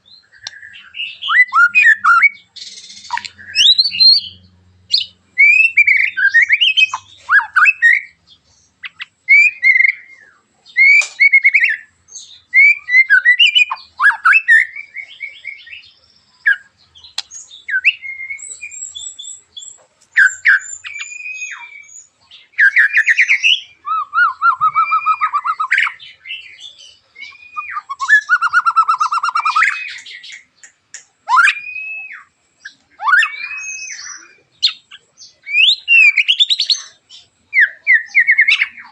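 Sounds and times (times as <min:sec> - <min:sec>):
bird singing whistled phrases: 0:00.1 - 0:08.2, 0:08.8 - 0:38.9.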